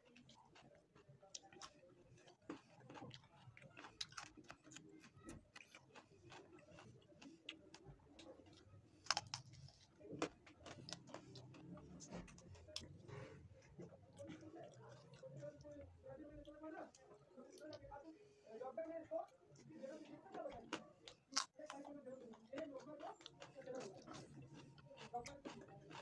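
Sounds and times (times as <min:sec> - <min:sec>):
man chewing and lip smacking: 0:00.0 - 0:15.8, 0:20.5 - 0:26.0.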